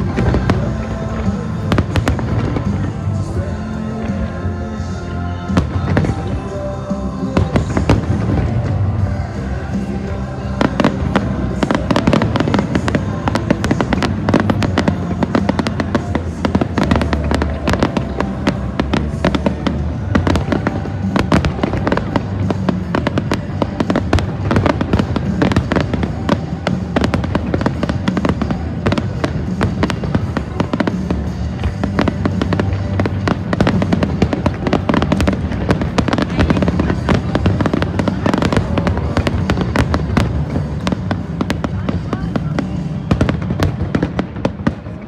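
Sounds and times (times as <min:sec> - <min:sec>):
fireworks bangs: 0:00.0 - 0:45.0
music playing: 0:00.0 - 0:45.0.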